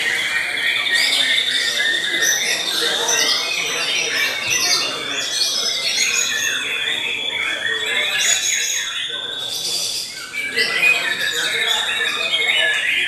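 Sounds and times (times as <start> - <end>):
songbirds whistling and chirping: 0.0 - 13.0.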